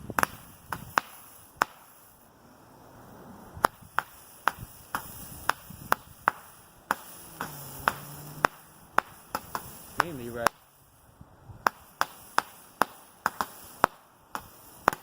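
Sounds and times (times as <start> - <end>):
firework shots popping: 0.0 - 2.3, 3.0 - 15.0.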